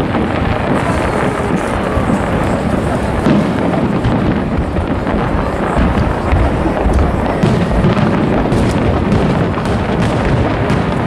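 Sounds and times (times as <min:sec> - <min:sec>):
fireworks booming: 0:00.0 - 0:11.0
fireworks crackling and popping: 0:00.0 - 0:11.0.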